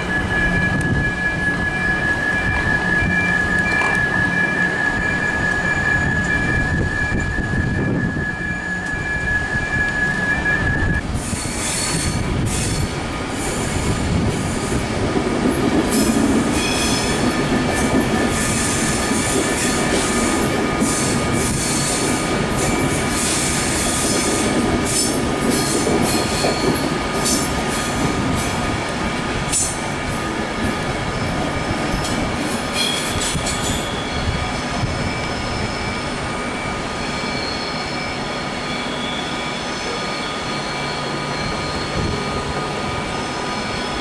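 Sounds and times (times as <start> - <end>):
train wheels squealing: 0.0 - 14.9, 15.8 - 44.0
low train rumble: 0.0 - 44.0.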